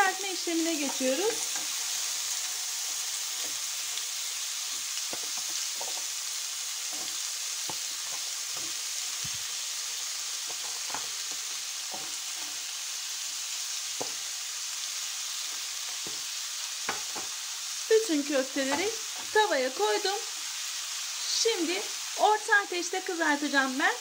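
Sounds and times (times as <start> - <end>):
meat sizzling in a grill pan: 0.0 - 24.0.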